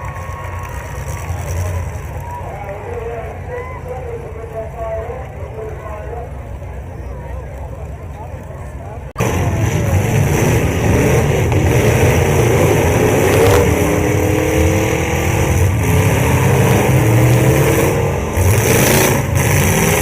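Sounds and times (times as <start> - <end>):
car engines revving loudly: 0.0 - 20.0.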